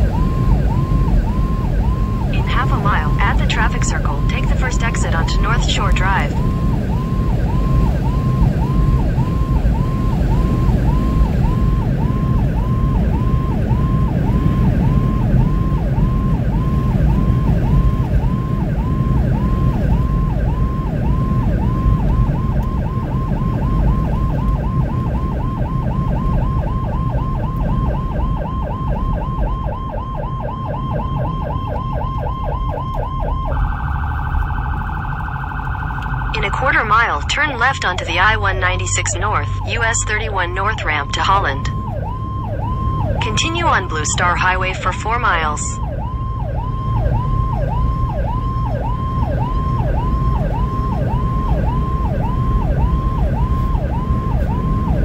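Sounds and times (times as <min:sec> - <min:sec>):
electronic siren yelp and warble: 0:00.0 - 0:55.0
vehicle engine and road noise: 0:00.0 - 0:55.0.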